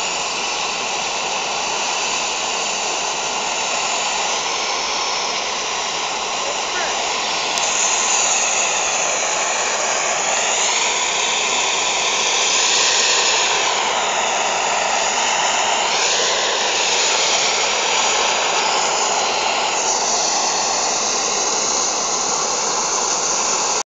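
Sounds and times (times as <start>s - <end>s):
propane burner firing: 0.0s - 23.8s.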